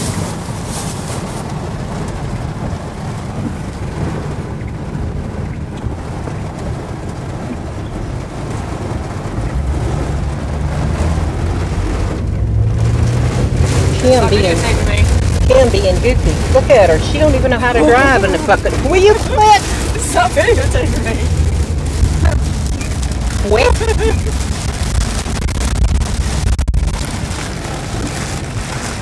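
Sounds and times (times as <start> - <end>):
engine and road rumble: 0.0 - 29.0
heavy rain on car roof: 0.0 - 29.0.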